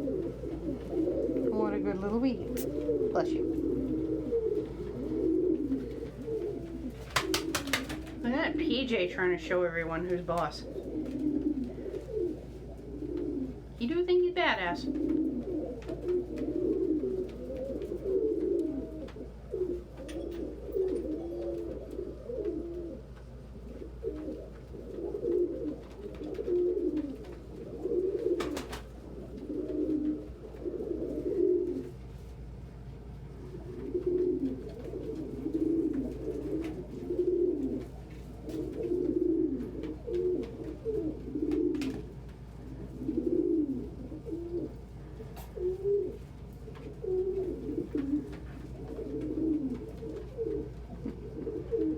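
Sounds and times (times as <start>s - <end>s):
faint steady hum: 0.0s - 51.9s
pigeons cooing: 0.0s - 51.9s.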